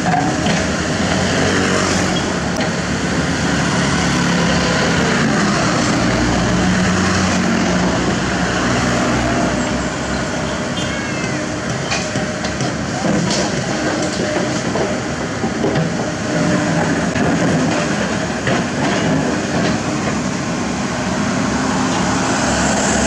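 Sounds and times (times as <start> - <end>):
excavator diesel engine running: 0.0 - 23.0
road traffic passing: 0.0 - 23.0.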